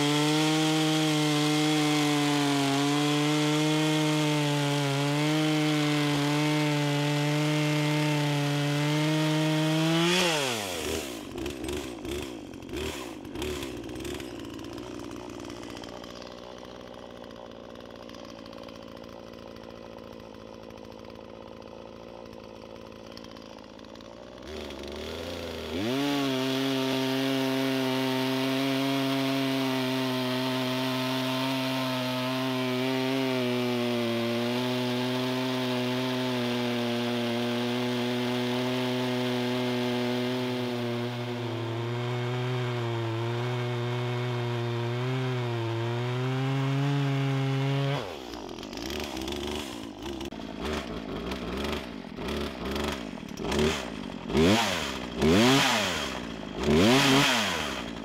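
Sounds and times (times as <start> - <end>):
chainsaw cutting log: 0.0 - 58.0
chainsaw idling with rattling: 0.0 - 58.0.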